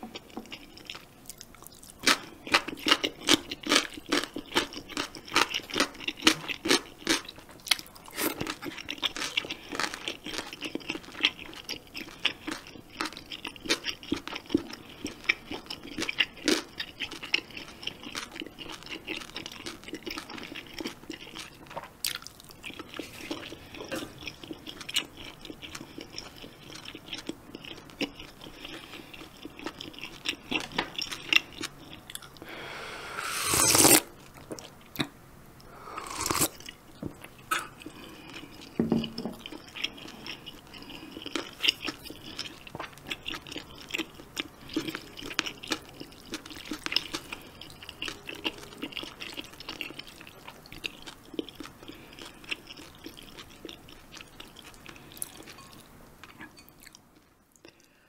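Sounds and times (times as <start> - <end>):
close chewing with mouth smacks: 0.0 - 32.5, 36.0 - 58.0.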